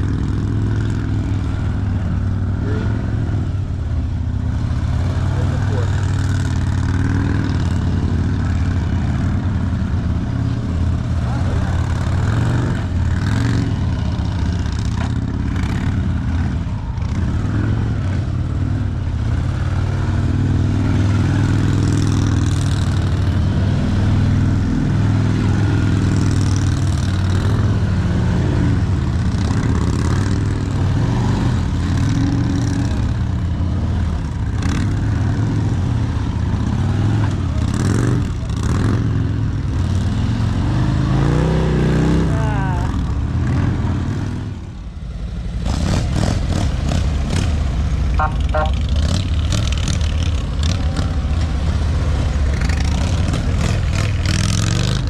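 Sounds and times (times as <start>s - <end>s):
heavy motorcycle engine: 0.0s - 55.0s.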